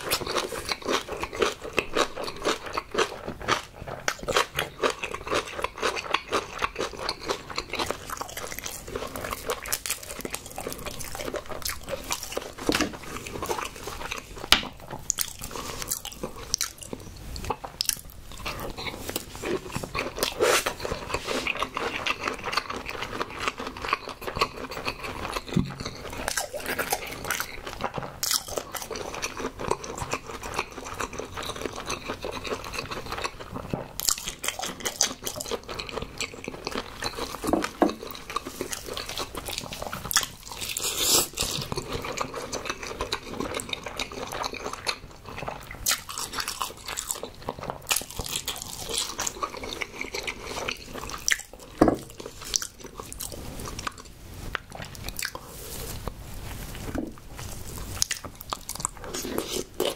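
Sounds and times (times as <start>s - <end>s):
close chewing with mouth clicks: 0.0s - 59.9s.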